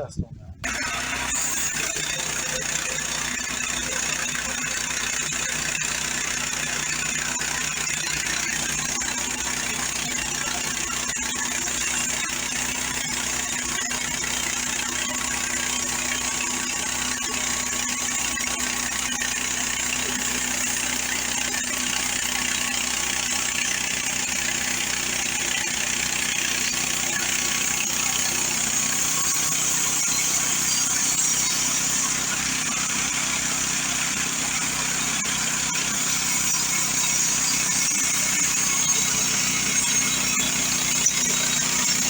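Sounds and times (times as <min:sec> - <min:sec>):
band saw blade cutting wood: 0:00.6 - 0:42.0
gas engine running under load: 0:00.6 - 0:42.0.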